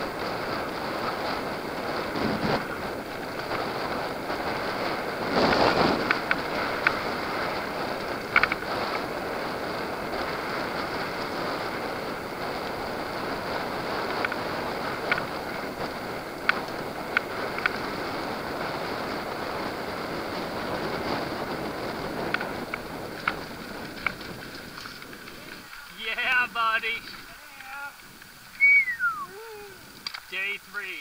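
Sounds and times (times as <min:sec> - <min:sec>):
bike clicking and rattling: 0:00.0 - 0:26.0, 0:29.8 - 0:30.3
wind on microphone: 0:00.0 - 0:26.0
bike tyres rolling on dirt: 0:00.0 - 0:31.0.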